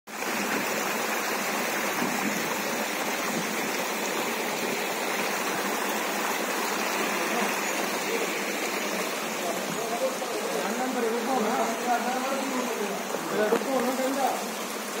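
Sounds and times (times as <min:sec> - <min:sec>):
stream flowing over rocks: 0:00.1 - 0:15.0.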